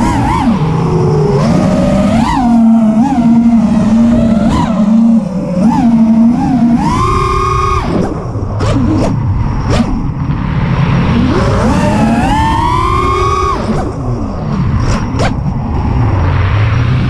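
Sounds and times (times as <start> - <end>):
quadcopter motors whining: 0.0 - 9.9, 11.0 - 15.5.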